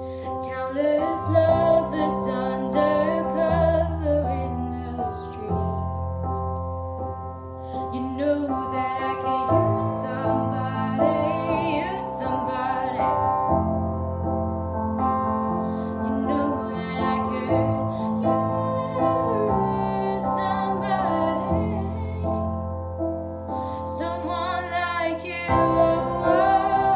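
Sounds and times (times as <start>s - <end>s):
woman singing: 0.0s - 6.0s, 7.8s - 13.5s, 15.9s - 22.6s, 23.7s - 26.9s
piano accompaniment: 0.0s - 26.9s.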